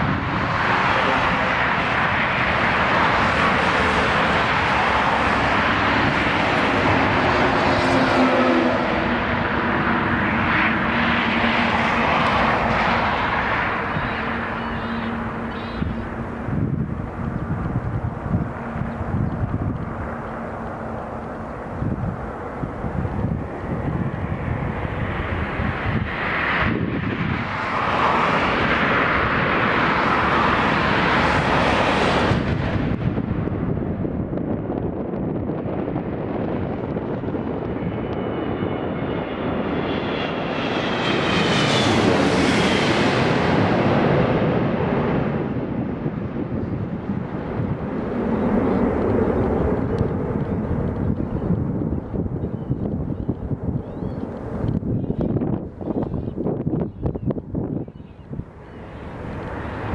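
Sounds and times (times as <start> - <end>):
jet engine roaring: 0.0 - 59.9
wind buffeting microphone: 0.0 - 59.9.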